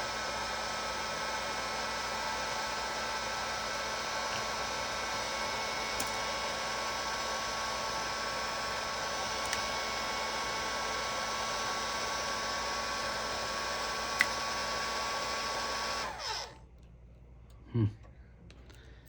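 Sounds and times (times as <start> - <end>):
heat gun blowing: 0.0 - 16.6.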